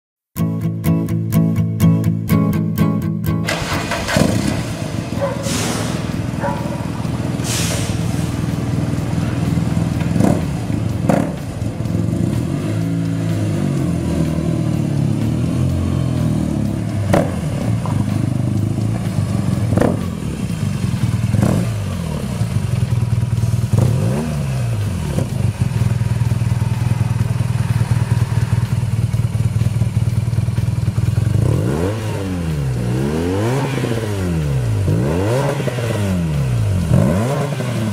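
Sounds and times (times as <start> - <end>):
motorcycle engine revving: 3.4 - 37.9.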